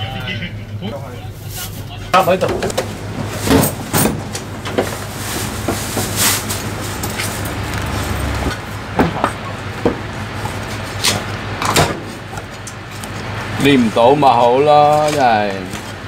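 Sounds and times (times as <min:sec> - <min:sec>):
busy shop hum: 0:00.0 - 0:16.0.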